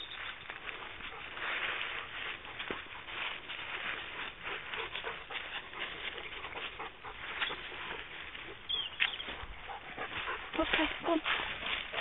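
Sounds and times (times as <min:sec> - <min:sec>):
rustling of dry leaves and twigs: 0:00.0 - 0:12.0.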